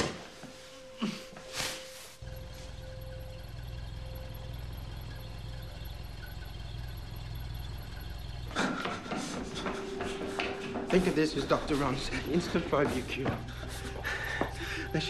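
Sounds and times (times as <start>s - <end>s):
car engine idling: 2.2s - 15.0s.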